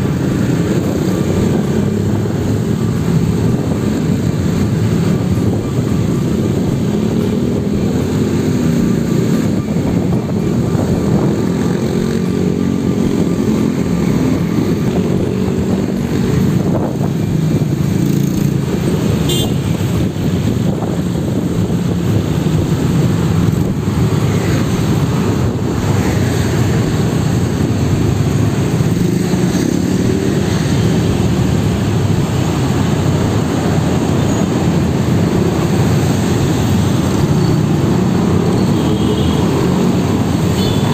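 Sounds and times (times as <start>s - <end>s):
idling traffic rumble: 0.0s - 40.9s
motorcycles running: 0.0s - 40.9s.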